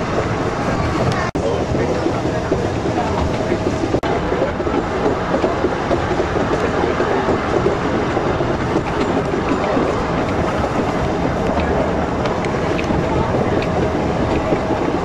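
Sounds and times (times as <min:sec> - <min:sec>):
train carriage rumbling and rattling: 0:00.0 - 0:15.0.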